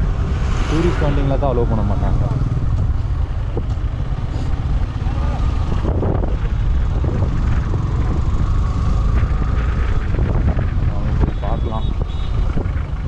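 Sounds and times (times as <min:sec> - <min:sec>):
wind rumble on microphone: 0:00.0 - 0:13.0
motorcycle engine running: 0:02.1 - 0:13.0.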